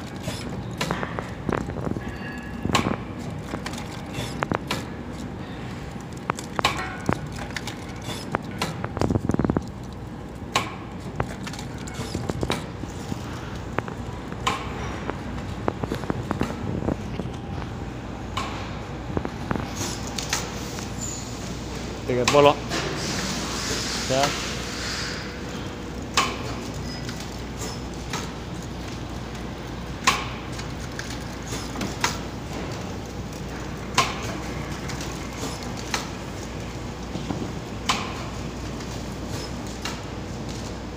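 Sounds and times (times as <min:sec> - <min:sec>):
packing machine humming: 0:00.0 - 0:40.9.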